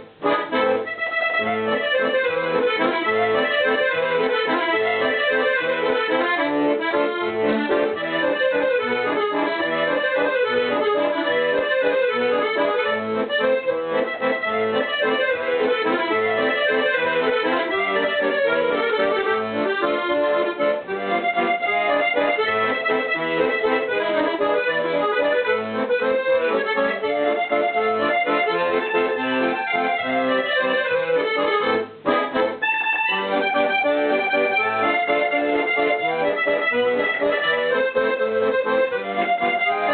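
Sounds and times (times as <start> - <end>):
accordion music: 0.0 - 39.9.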